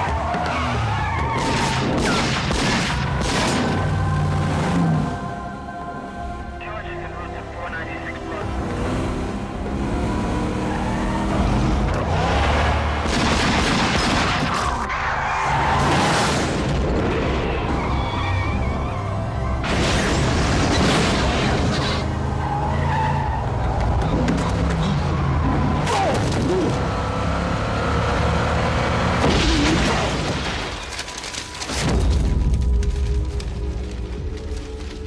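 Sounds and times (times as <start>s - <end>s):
tense film score: 0.0s - 35.0s.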